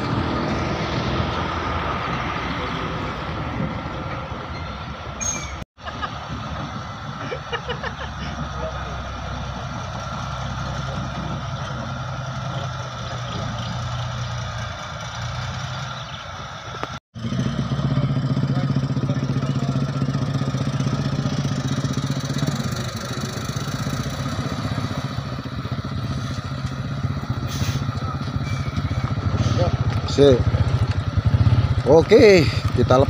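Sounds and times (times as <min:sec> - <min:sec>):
heavy diesel engine running: 0:06.2 - 0:33.0.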